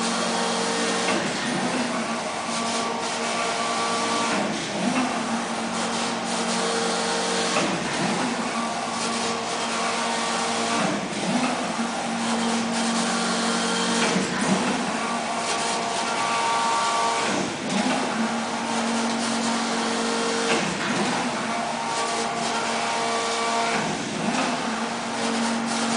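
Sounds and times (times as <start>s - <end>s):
knitting machine hum and clatter: 0.0s - 25.9s.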